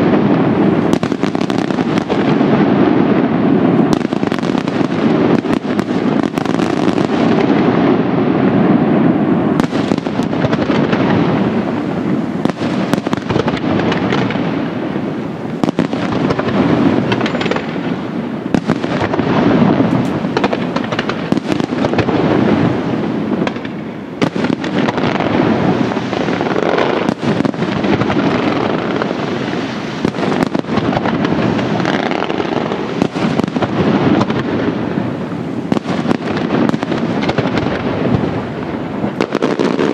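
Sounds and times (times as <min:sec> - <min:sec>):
fireworks bursting and crackling: 0:00.0 - 0:39.9
sharp fireworks bangs: 0:00.0 - 0:39.9.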